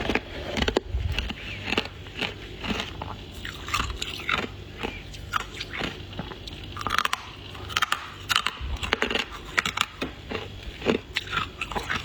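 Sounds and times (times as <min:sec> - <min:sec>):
frost being chewed: 0:00.0 - 0:12.0.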